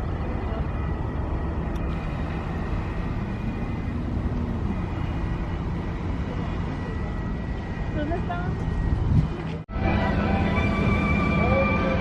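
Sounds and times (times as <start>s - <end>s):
car driving road noise: 0.0s - 12.0s.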